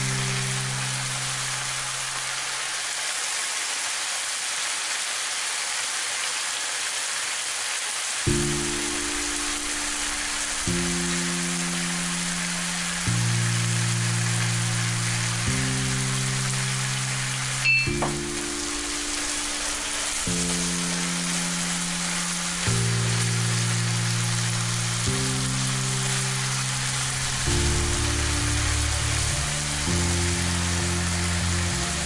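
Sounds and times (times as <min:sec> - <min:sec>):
soft background music: 0:00.0 - 0:02.3, 0:08.3 - 0:32.0
meat sizzling in a frying pan: 0:00.0 - 0:32.0.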